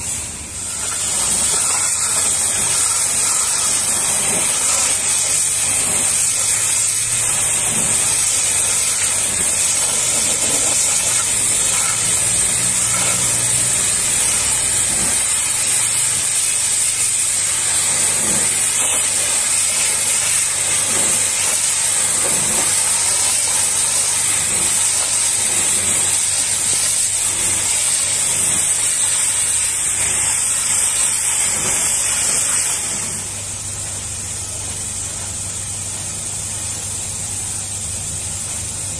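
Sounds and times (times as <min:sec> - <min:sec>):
pressure washer jet hissing on metal: 0:00.0 - 0:38.9.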